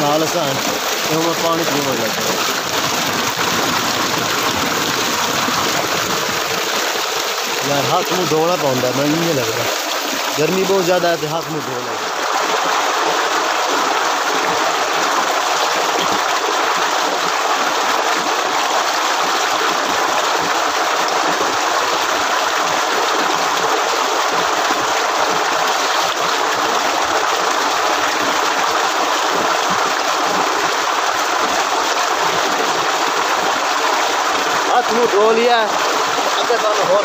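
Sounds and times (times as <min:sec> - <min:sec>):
water gushing from pipe: 0:00.0 - 0:37.0.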